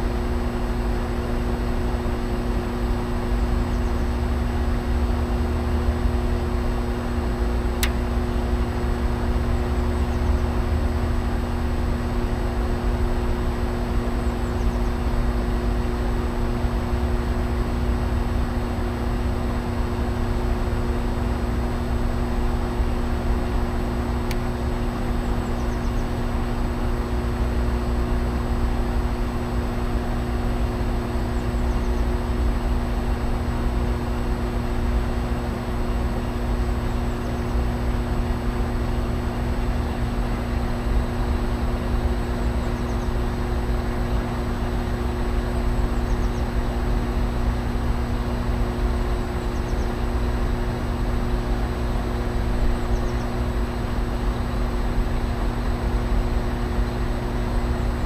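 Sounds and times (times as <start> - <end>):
heat pump humming: 0.0 - 58.0.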